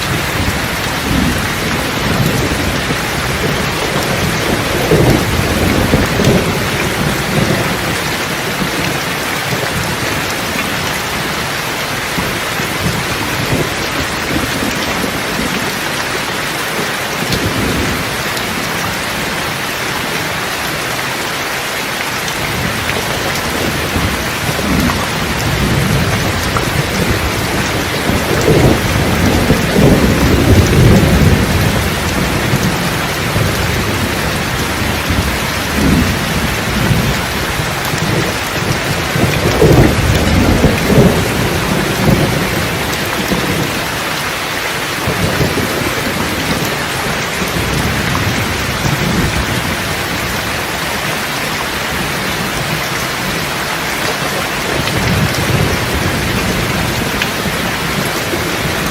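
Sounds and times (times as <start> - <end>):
rolling thunder: 0.0 - 19.6, 22.4 - 44.2, 44.8 - 53.6, 54.4 - 58.9
heavy rain: 0.0 - 58.9.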